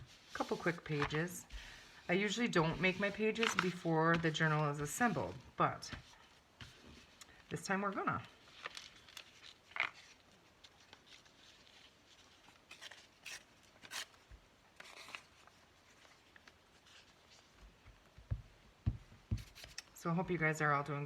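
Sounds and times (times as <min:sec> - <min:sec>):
paper rustling: 0:00.0 - 0:18.2, 0:19.4 - 0:20.0.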